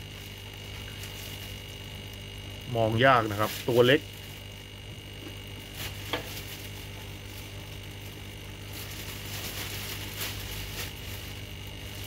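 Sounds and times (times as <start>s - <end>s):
aquarium equipment hum: 0.0s - 12.0s.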